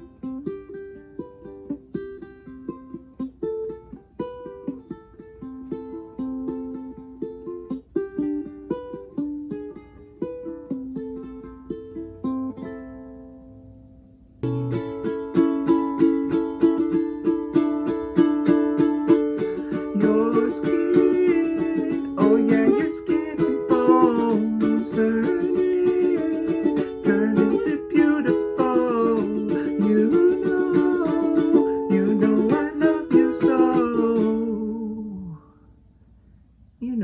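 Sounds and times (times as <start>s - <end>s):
ukulele playing: 0.0s - 35.6s.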